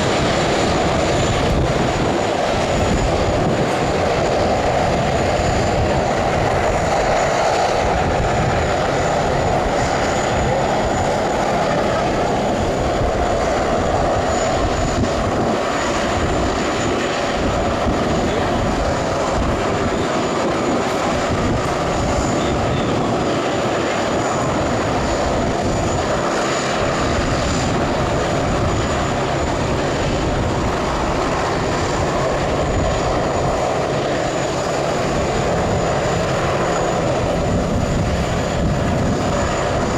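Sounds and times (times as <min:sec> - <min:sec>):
aircraft engines roaring: 0:00.0 - 0:39.9.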